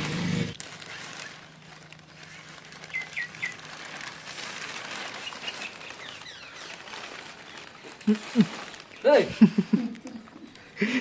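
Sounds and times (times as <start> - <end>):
newspaper rustling: 0.0 - 11.0
wind: 0.0 - 11.0.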